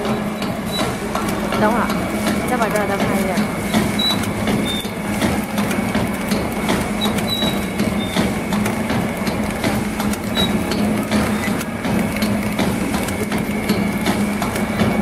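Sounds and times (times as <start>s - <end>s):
packing machine motor hum: 0.0s - 15.0s
rapid mechanical clicking and clatter: 0.0s - 15.0s.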